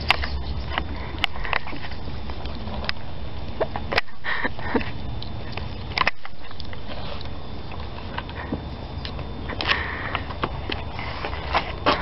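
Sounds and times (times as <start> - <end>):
raccoons snuffling and eating: 0.0 - 12.0.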